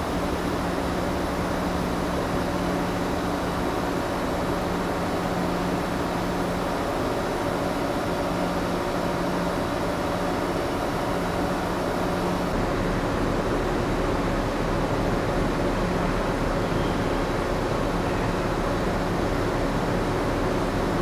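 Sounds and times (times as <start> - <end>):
ship machinery humming: 0.0 - 21.0.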